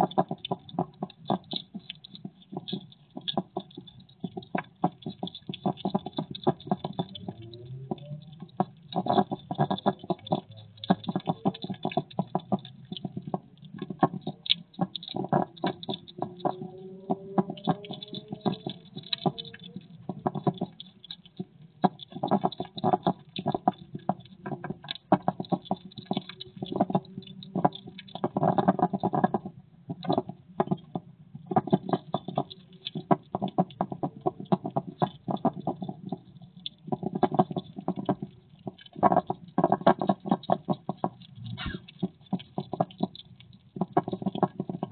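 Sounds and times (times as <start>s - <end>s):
hedgehog chewing and smacking: 0.0s - 44.9s.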